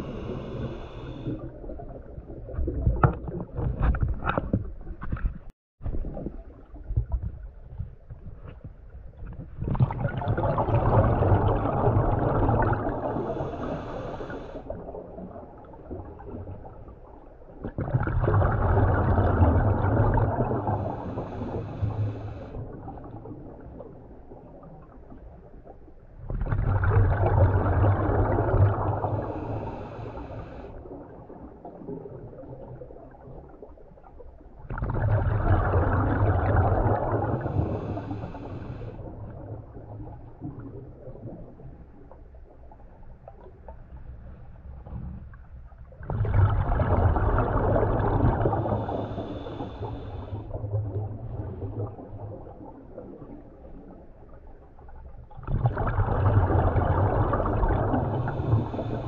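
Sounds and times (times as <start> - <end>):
exhaled bubbles underwater: 0.0 - 8.0, 9.2 - 44.0, 45.8 - 59.0.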